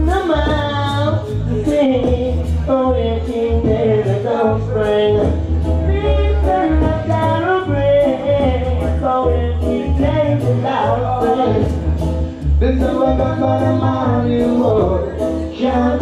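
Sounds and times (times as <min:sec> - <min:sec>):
heavy bass line: 0:00.0 - 0:16.0
vocal melody: 0:00.0 - 0:16.0.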